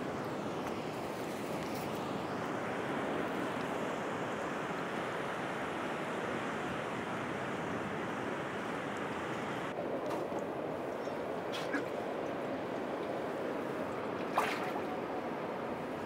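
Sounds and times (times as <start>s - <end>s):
seawater lapping around pilings: 0.0s - 16.0s.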